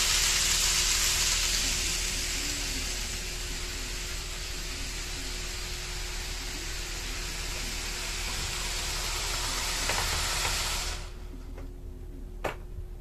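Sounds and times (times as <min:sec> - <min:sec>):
steady loud hiss: 0:00.0 - 0:11.4
faint steady hum: 0:00.0 - 0:13.0.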